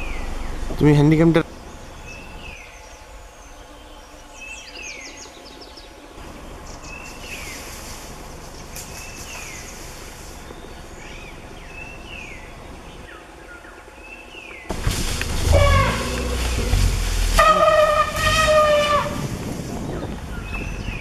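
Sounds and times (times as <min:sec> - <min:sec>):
insect hiss: 0:00.0 - 0:21.0.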